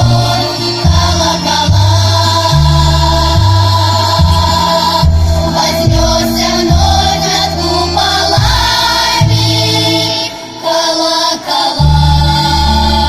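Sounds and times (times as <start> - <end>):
choir singing held notes: 0.0 - 13.0
low instrumental accompaniment: 0.0 - 13.0.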